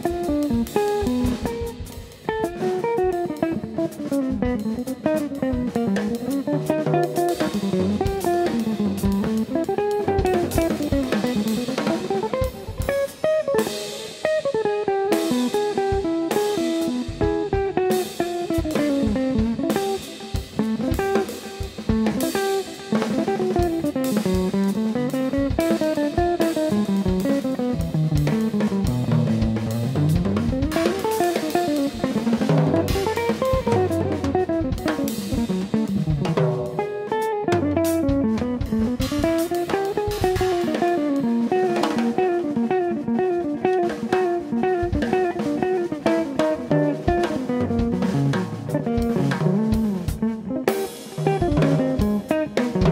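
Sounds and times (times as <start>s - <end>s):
drum kit: 0.0s - 52.9s
electric guitar single-note lines: 0.0s - 52.9s.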